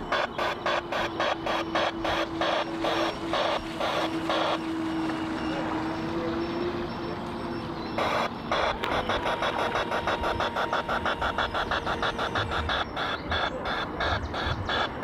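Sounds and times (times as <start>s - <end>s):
chugging engine sound from speaker: 0.0s - 15.0s
steady hum: 0.0s - 15.0s.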